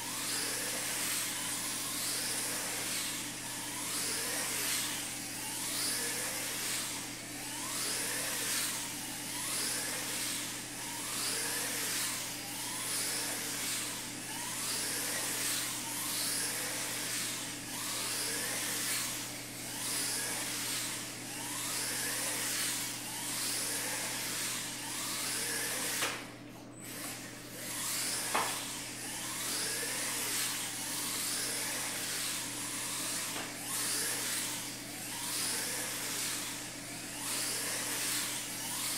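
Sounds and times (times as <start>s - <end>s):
electric toy car motor whining: 0.0s - 38.9s.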